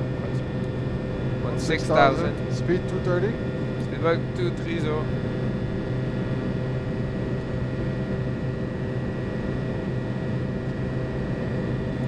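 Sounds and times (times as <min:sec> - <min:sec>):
airflow and jet engine noise: 0:00.0 - 0:12.0
faint high whine: 0:00.0 - 0:12.0.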